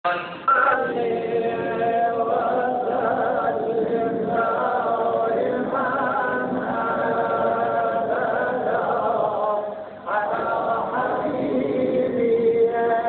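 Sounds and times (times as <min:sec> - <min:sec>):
man chanting unaccompanied: 0:00.1 - 0:13.0.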